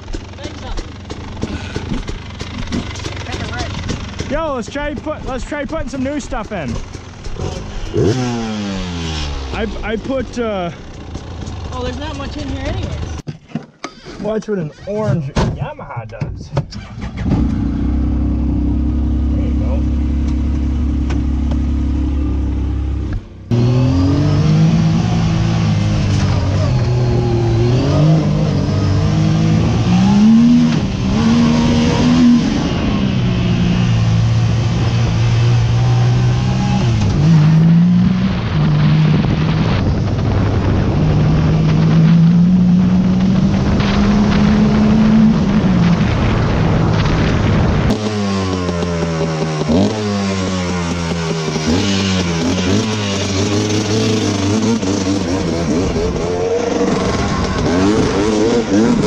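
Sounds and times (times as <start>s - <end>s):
vehicle engine revving: 0.0s - 13.2s, 16.7s - 59.0s.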